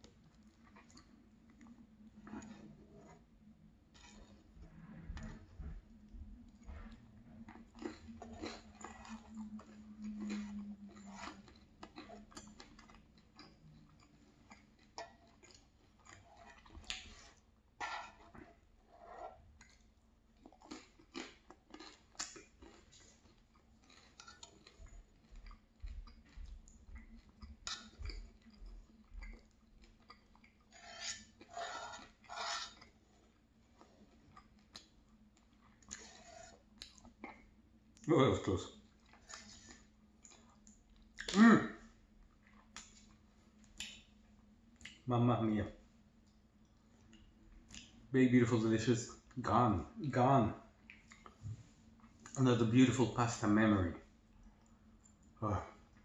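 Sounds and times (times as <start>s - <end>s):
chewing and wet mouth sounds: 0.0s - 45.1s, 46.1s - 48.1s, 50.7s - 52.7s, 54.0s - 56.0s.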